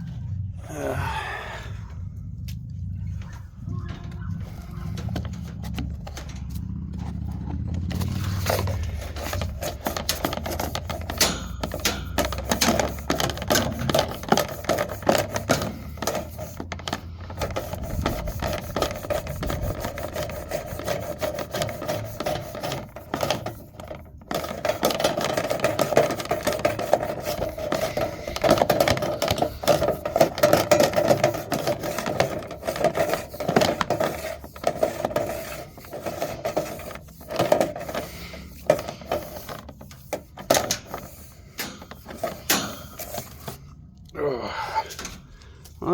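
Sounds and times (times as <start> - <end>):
cleaning tool scraping in vent pipe: 4.5 - 43.7.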